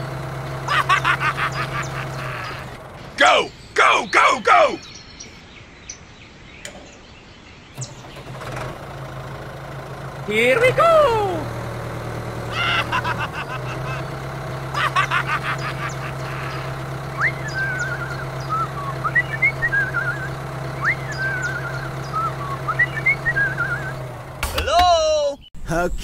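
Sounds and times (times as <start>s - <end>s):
rattling bursts: 0.0s - 3.7s, 7.7s - 25.0s
birds chirping and trilling: 0.0s - 11.2s, 12.2s - 26.0s
tractor engine humming: 0.0s - 26.0s.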